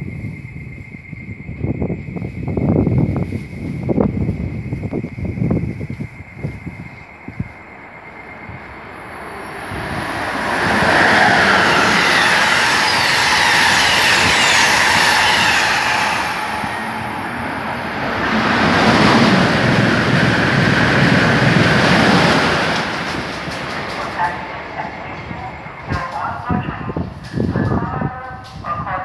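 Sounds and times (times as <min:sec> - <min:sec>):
second train passing: 0:00.0 - 0:29.0
train passing at speed: 0:00.0 - 0:29.0.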